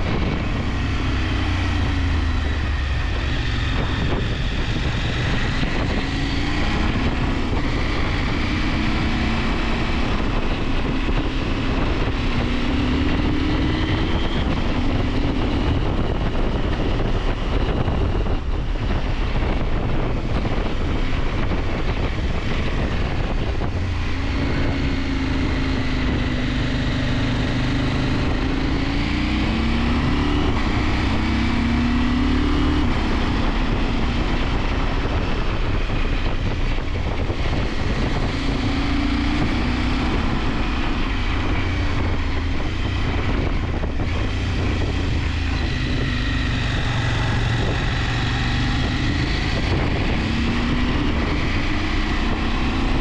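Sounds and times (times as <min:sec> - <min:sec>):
motorcycle engine revving through gears: 0:00.0 - 0:53.0
wind rushing over microphone: 0:00.0 - 0:53.0.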